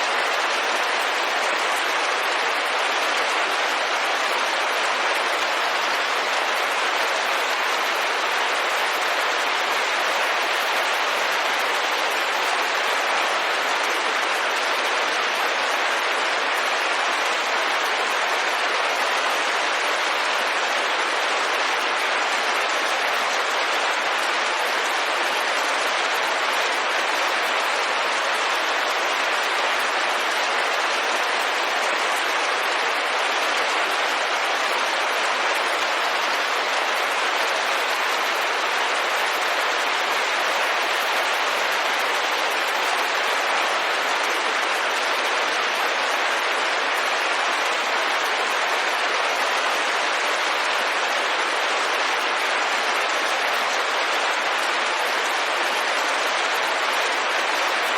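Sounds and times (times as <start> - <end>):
rain on window glass: 0.0 - 57.9.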